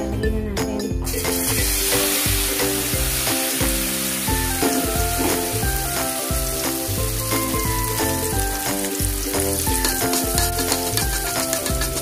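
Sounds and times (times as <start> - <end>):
background music with a beat: 0.0 - 12.0
eggplant frying in oil: 1.3 - 12.0.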